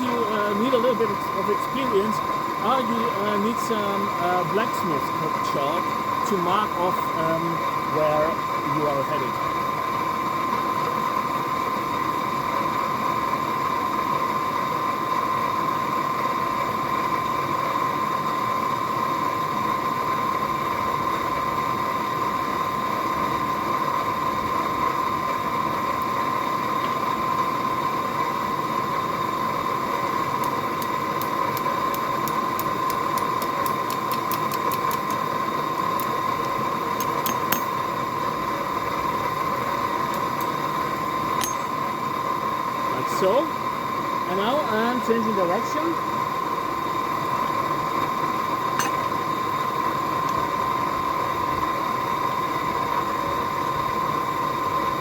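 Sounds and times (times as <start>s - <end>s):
forge blower hiss and whine: 0.0s - 55.0s.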